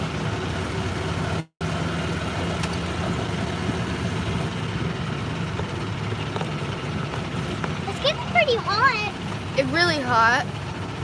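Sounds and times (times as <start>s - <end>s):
golf cart motor hum: 0.0s - 11.0s
road and wind noise: 0.0s - 11.0s.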